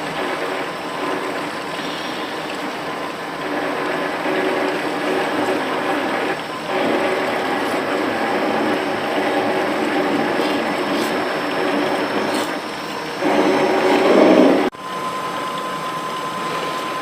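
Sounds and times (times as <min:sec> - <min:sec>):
circular saw machine whirring: 0:00.0 - 0:17.0.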